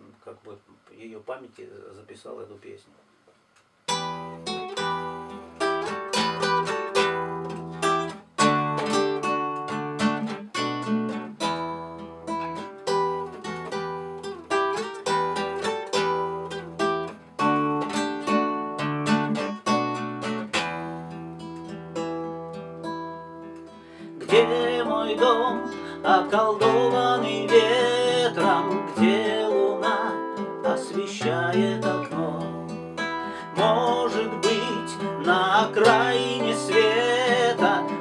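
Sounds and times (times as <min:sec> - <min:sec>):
acoustic guitar strumming: 0:03.8 - 0:38.0.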